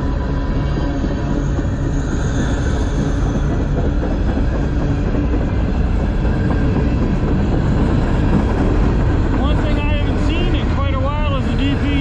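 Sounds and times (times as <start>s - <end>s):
steel wheels running on rails: 0.0s - 12.0s.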